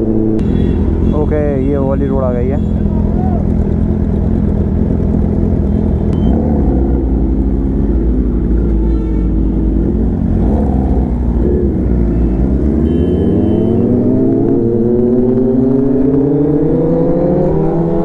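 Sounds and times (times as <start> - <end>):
motorcycle engines rumbling: 0.0 - 18.0.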